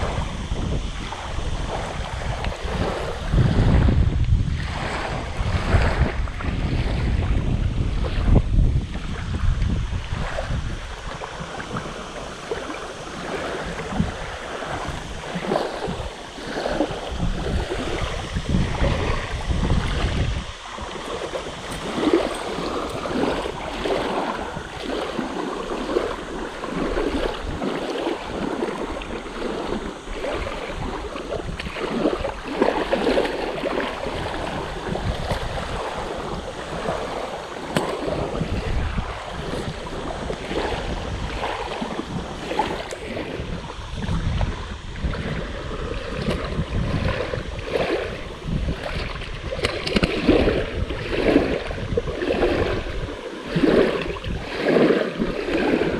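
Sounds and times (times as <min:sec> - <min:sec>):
small waves lapping on bank: 0:00.0 - 0:55.9
wind buffeting microphone: 0:00.0 - 0:55.9.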